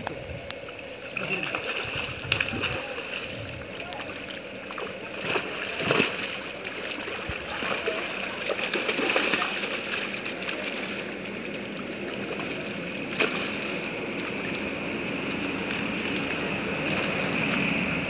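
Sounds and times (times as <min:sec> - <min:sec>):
fish splashing in water: 0:00.5 - 0:18.0.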